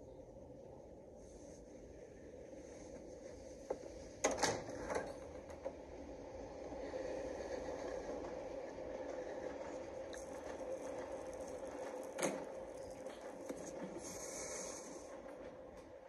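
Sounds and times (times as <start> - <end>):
muffled film soundtrack: 0.0 - 16.0.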